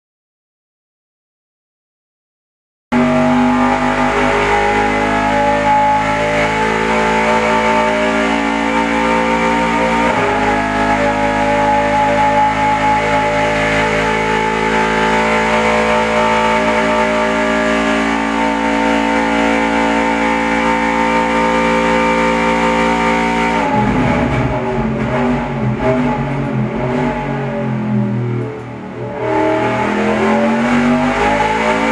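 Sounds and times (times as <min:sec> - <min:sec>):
racing engine running at high pitch: 0:02.9 - 0:31.9.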